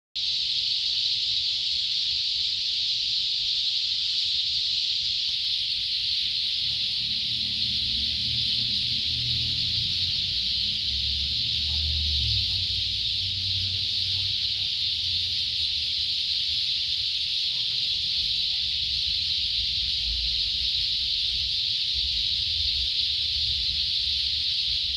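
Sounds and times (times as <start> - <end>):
chorus of birds calling: 0.2 - 24.9.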